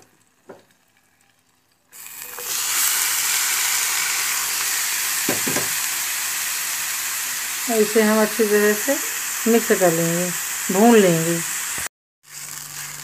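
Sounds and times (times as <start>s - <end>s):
carrots sizzling in hot fat: 0.0s - 13.0s.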